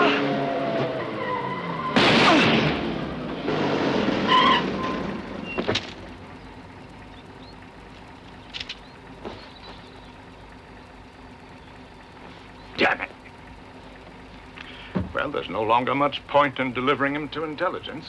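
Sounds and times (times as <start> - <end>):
car engine slowing: 0.0 - 18.0.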